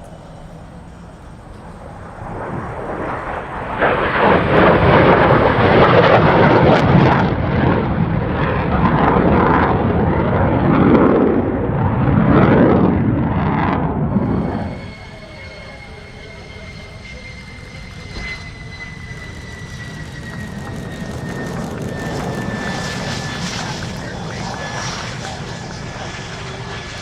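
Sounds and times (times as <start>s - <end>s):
fighter jet engine roaring: 0.0s - 27.0s.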